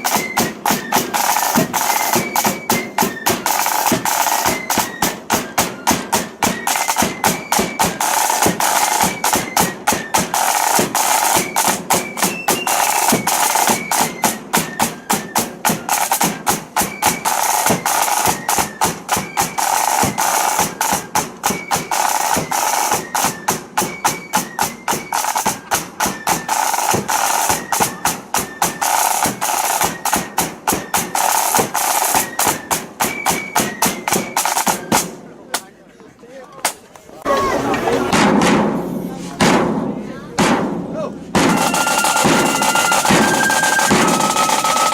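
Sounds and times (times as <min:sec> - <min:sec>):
flute band playing a march: 0:00.0 - 0:35.2, 0:41.3 - 0:44.9
snare and bass drumming: 0:00.0 - 0:35.3, 0:37.2 - 0:44.9.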